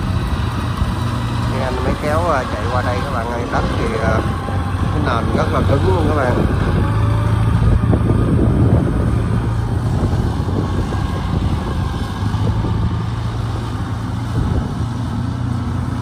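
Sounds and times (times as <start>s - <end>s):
combine harvester engine running: 0.0s - 16.0s.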